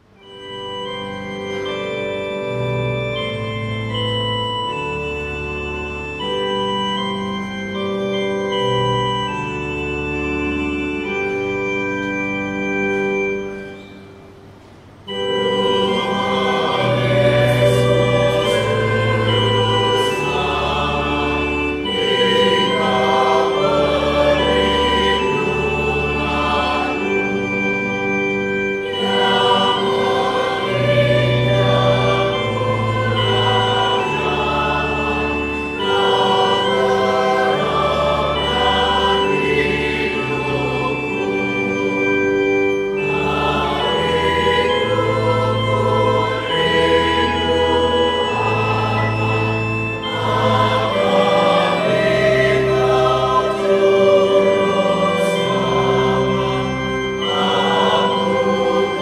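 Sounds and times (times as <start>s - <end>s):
church choir singing a hymn: 0.0s - 14.2s, 15.0s - 59.0s
organ bass notes: 0.0s - 59.0s.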